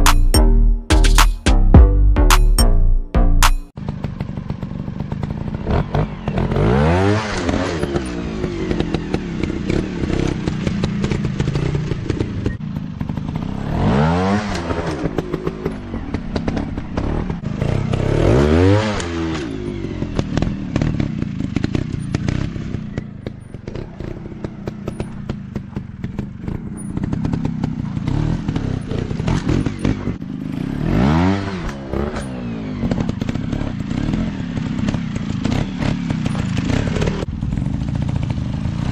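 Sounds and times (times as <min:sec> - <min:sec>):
dirt bikes revving: 0:03.9 - 0:38.9.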